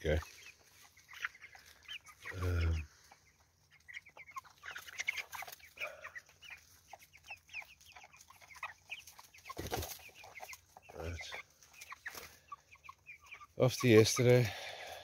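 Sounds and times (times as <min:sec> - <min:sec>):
chicks cheeping: 0:00.0 - 0:15.0.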